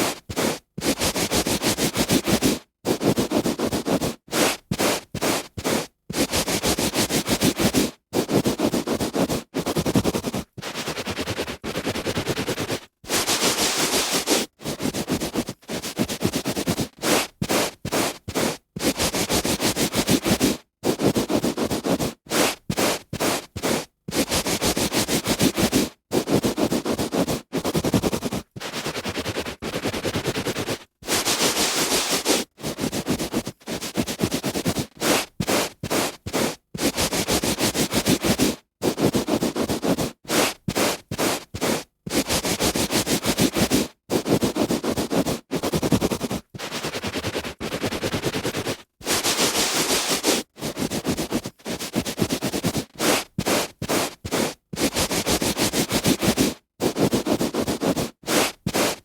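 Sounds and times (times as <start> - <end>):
hand rubbing on carpet: 0.0 - 59.0.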